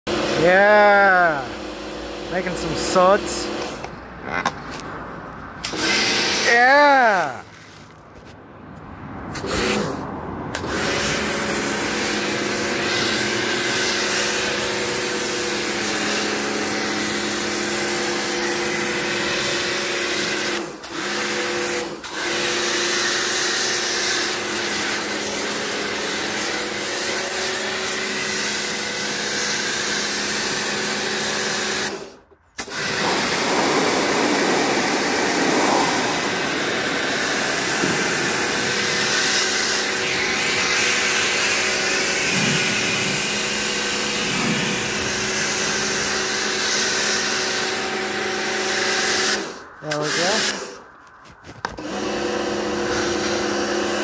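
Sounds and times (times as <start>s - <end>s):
pressure washer spraying water: 0.1s - 3.9s, 5.6s - 7.3s, 9.4s - 10.0s, 10.6s - 50.8s, 51.8s - 54.0s.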